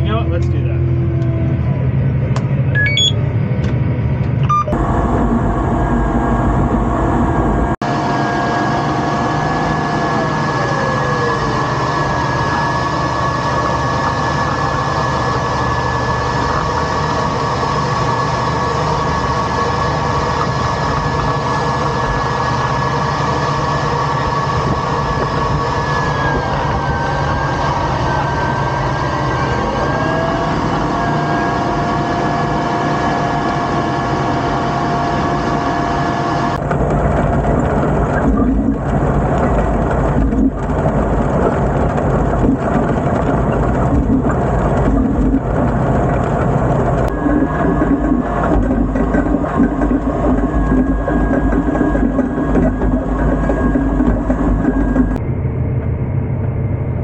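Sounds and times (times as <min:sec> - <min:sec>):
planter mechanical running whine: 0:00.0 - 0:57.0
rough rumble of soil: 0:04.8 - 0:55.2.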